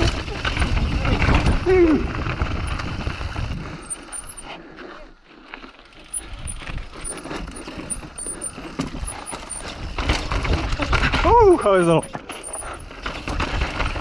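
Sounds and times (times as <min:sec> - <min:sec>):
bike rattling and knocking: 0:00.0 - 0:04.6, 0:05.5 - 0:14.0.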